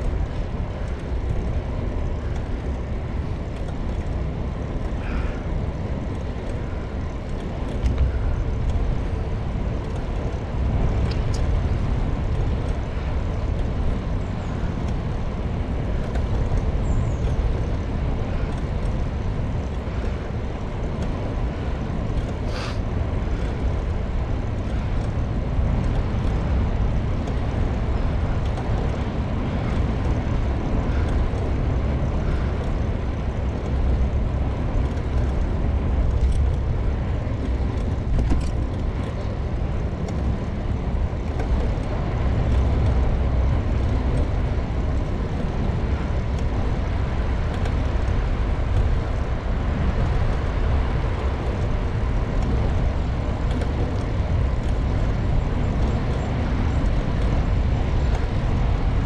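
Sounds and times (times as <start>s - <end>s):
bicycle road noise: 0.0s - 59.0s
wind on microphone: 0.0s - 59.0s.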